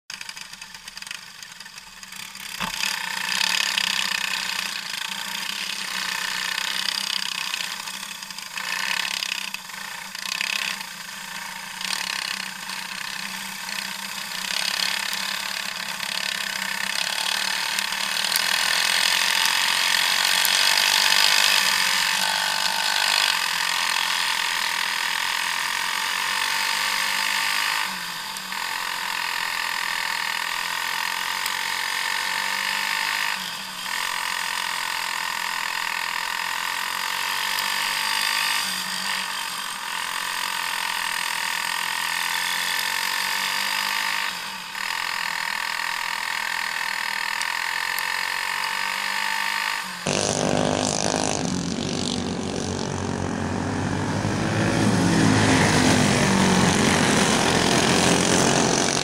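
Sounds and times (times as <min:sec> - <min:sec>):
kart engines buzzing whine: 0:00.1 - 0:59.0.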